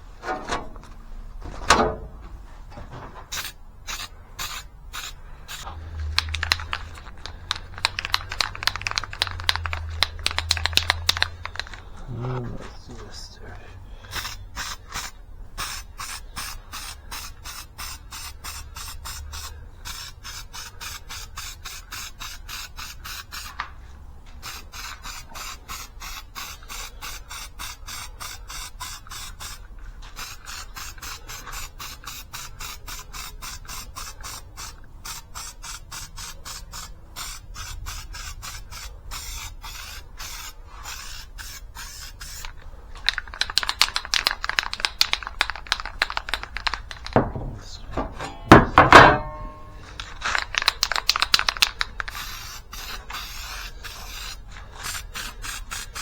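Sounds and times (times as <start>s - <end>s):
spray paint hissing in short strokes: 3.3s - 11.9s, 14.1s - 23.7s, 24.3s - 47.2s, 49.9s - 56.0s.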